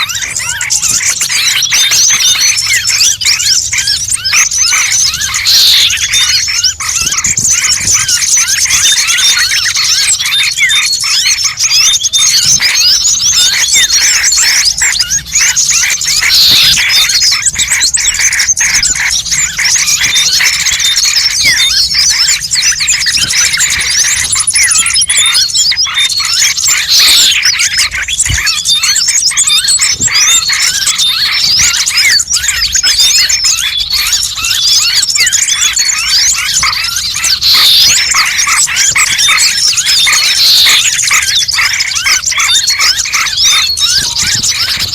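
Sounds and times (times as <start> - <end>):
loud squealing bird calls: 0.0 - 44.9
small birds chirping and twittering: 0.0 - 44.9.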